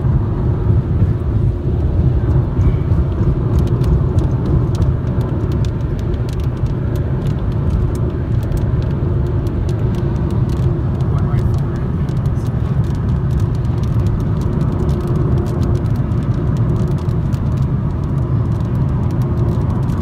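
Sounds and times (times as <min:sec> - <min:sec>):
road and tyre rumble: 0:00.0 - 0:20.0
faint light ticks: 0:02.6 - 0:20.0.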